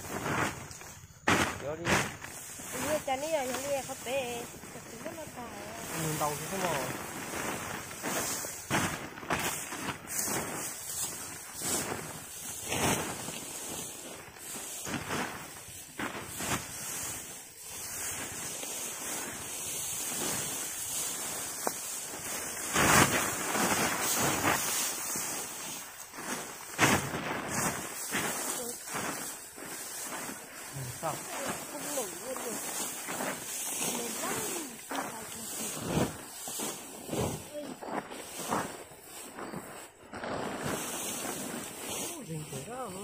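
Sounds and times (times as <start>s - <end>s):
dry rice stalks rustling: 0.0s - 43.0s.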